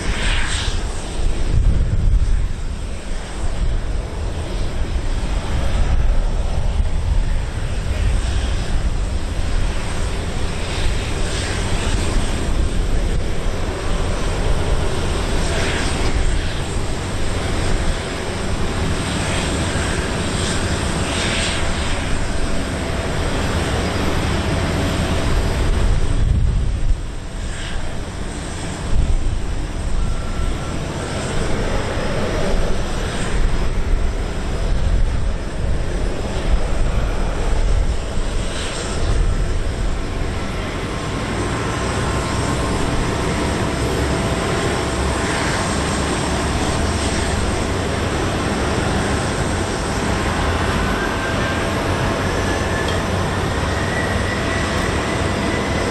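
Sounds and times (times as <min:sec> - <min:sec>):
jet engines at taxi power: 0:00.0 - 0:55.9.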